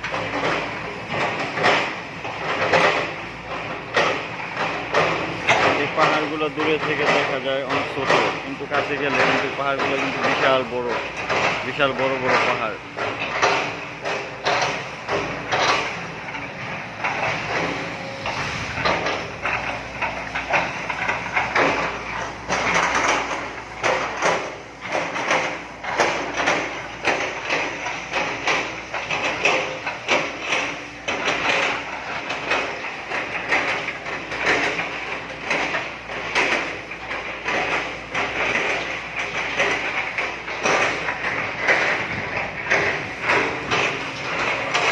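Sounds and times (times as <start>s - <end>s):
heavy machinery clanking: 0.0s - 44.9s
metallic knocks: 0.0s - 44.9s.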